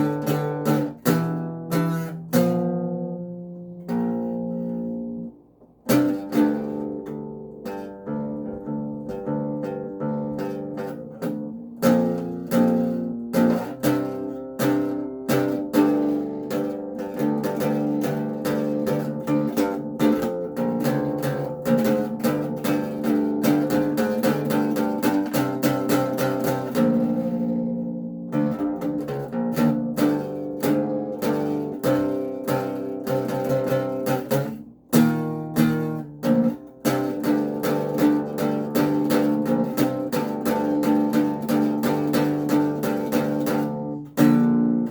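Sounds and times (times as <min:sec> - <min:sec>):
acoustic bass guitar plucked: 0:00.0 - 0:44.9.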